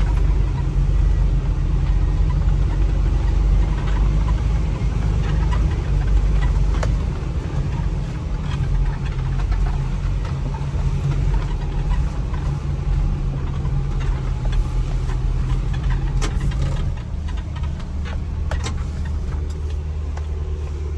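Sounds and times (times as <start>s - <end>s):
vehicle engine humming: 0.0s - 20.9s
light clicks and knocks: 3.6s - 20.9s.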